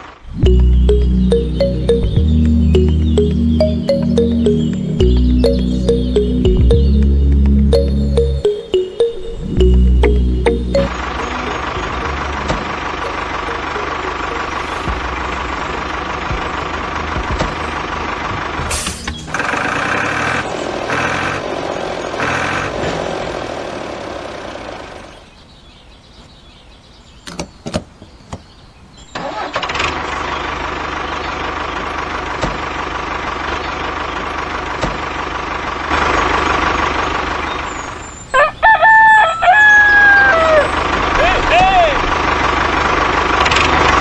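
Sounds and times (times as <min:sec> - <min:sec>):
tractor engine running: 0:00.0 - 0:25.2, 0:29.4 - 0:44.0.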